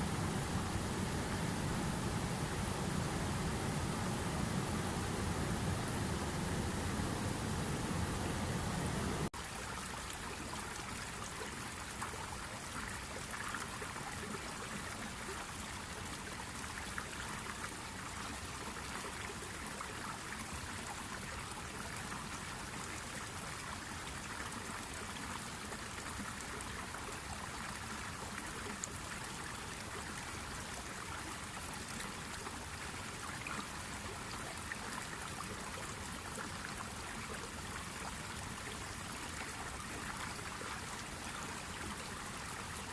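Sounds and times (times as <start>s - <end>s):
stream of water trickling: 0.0s - 42.9s.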